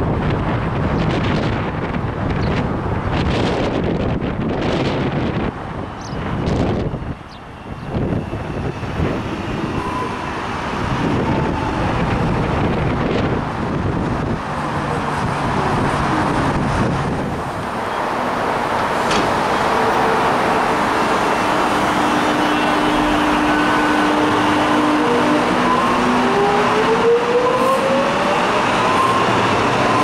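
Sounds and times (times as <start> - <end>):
train low hum: 0.0 - 30.0.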